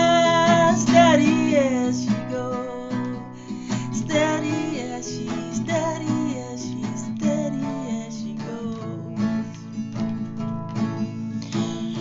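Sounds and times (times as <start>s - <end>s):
person singing: 0.0s - 9.4s, 11.4s - 12.0s
acoustic guitar strumming: 0.0s - 12.0s.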